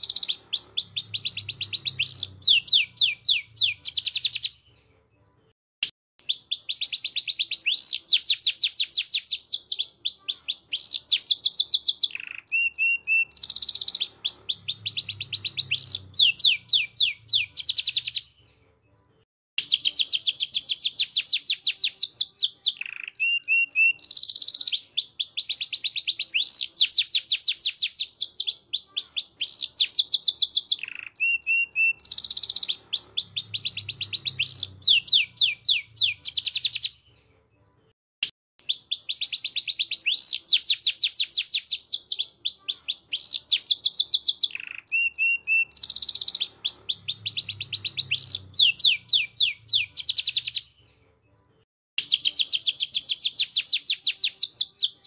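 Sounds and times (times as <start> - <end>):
canary singing: 0.0 - 4.8, 6.2 - 18.4, 19.6 - 37.2, 38.6 - 50.8, 52.0 - 55.0.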